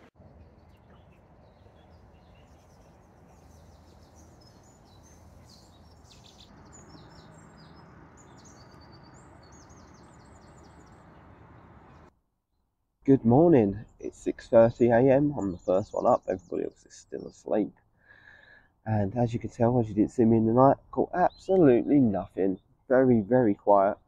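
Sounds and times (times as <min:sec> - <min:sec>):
small birds chirping: 0:00.0 - 0:12.1, 0:13.3 - 0:24.0.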